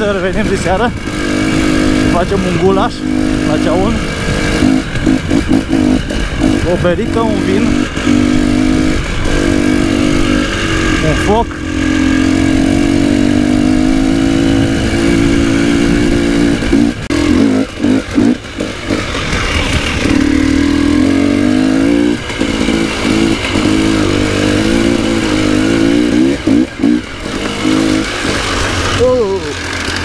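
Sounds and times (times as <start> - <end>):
two-stroke motorcycle engine: 0.0 - 30.0.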